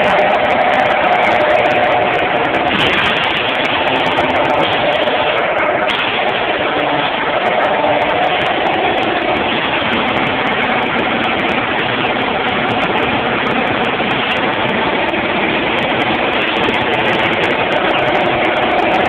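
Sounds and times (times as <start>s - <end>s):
faint steady hum: 0.0s - 19.0s
rushing air: 0.0s - 19.0s.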